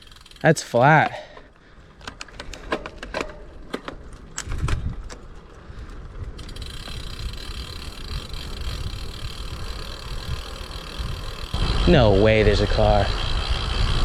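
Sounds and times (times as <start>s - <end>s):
low wind buffeting: 0.0s - 14.0s
road and wind noise: 0.0s - 14.0s.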